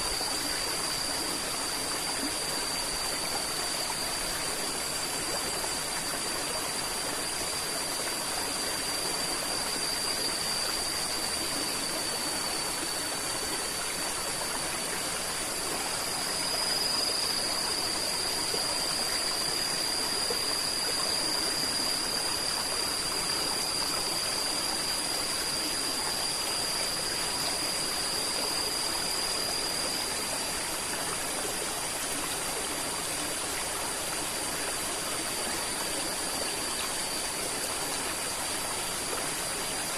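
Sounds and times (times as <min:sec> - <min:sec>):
high-pitched whine: 0:00.0 - 0:39.9.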